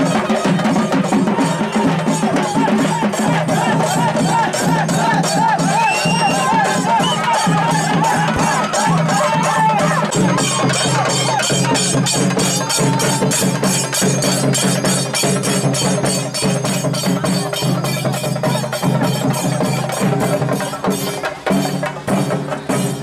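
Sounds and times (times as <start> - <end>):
large drums beating fast rhythm: 0.0 - 23.0.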